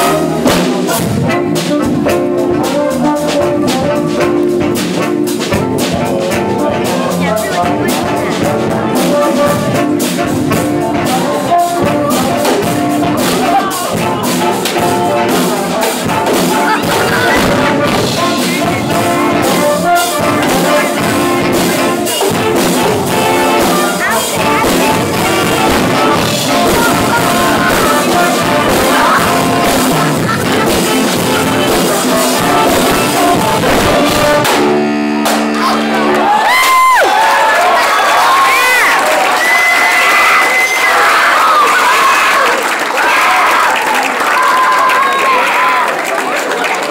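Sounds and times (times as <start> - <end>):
jazz band playing funky tune: 0.0 - 43.7.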